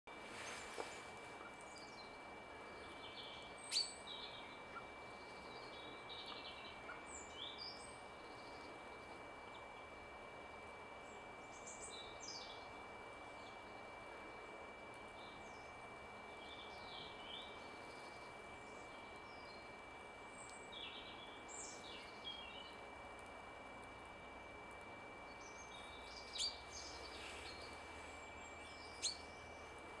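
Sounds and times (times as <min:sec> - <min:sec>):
small birds chirping: 0:00.3 - 0:10.1, 0:10.9 - 0:14.2, 0:15.0 - 0:30.0.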